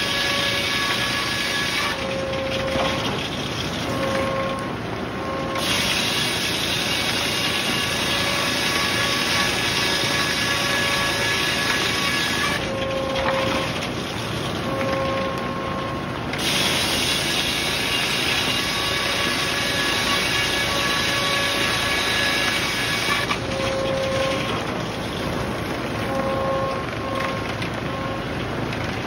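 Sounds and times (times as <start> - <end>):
sawmill machine running: 0.0 - 29.0.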